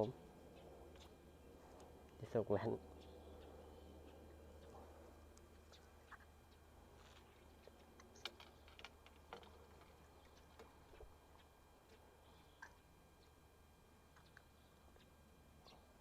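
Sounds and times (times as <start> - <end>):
faint low hum: 0.0 - 16.0
faint clicks and ticks: 0.5 - 13.4, 14.1 - 15.8.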